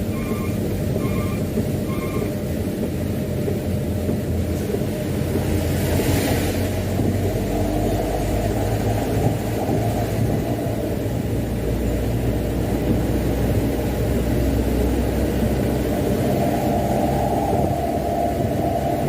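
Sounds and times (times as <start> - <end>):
diesel truck engine running: 0.0 - 19.0
road rumble: 0.0 - 19.0.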